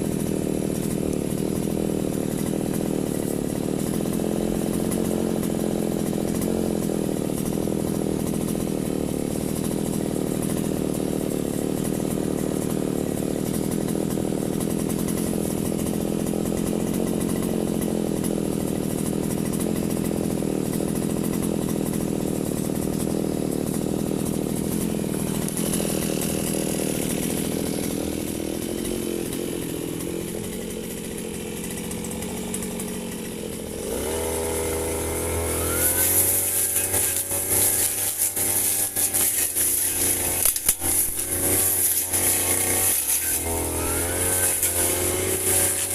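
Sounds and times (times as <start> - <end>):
brush cutter engine running: 0.0 - 45.9.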